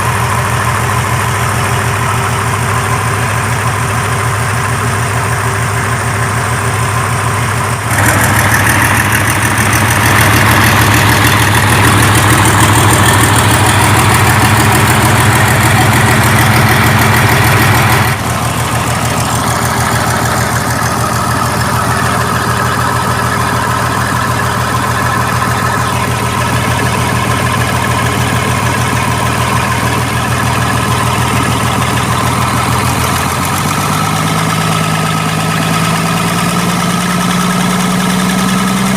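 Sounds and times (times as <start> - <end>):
diesel generator engine running: 0.0 - 38.9.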